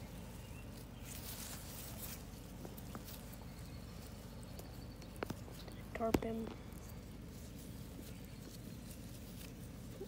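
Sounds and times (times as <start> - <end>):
rustling in grass: 0.0 - 10.0.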